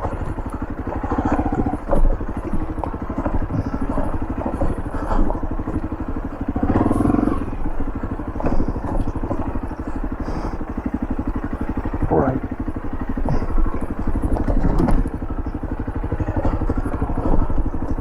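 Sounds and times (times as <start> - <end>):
knocks and rattles from bike: 0.0 - 18.0
motorbike engine running: 0.0 - 18.0.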